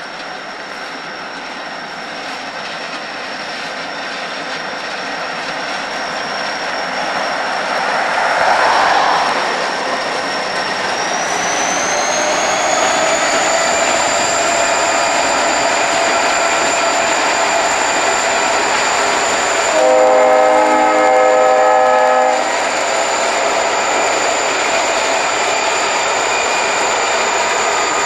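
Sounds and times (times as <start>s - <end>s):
diesel locomotives passing: 0.0s - 28.0s.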